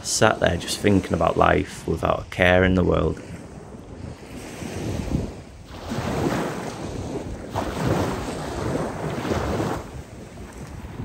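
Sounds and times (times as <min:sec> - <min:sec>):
small waves breaking on sand: 0:00.0 - 0:11.0
wind on microphone: 0:00.0 - 0:11.0.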